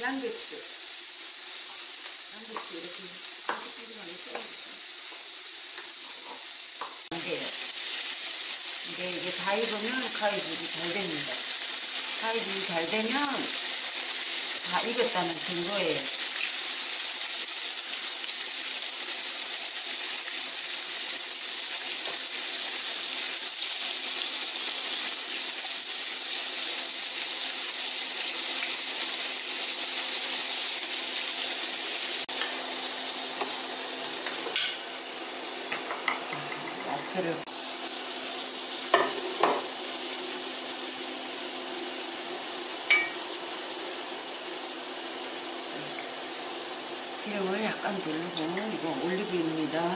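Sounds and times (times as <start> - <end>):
meat sizzling in a pan: 0.0 - 49.9.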